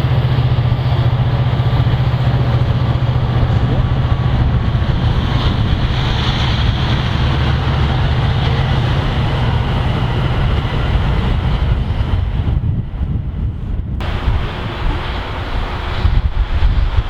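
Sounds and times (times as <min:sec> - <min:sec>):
train rumbling by: 0:00.0 - 0:17.0
wind noise on microphone: 0:00.0 - 0:17.0.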